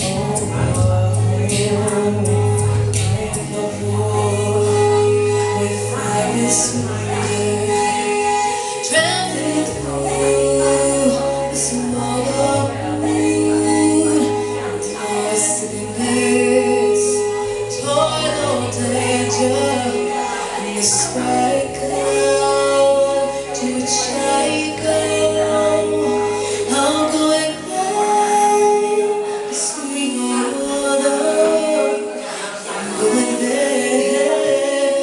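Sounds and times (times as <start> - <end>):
choir-like vocals: 0.0 - 35.0
held bass notes: 0.0 - 35.0
woman singing: 0.0 - 35.0.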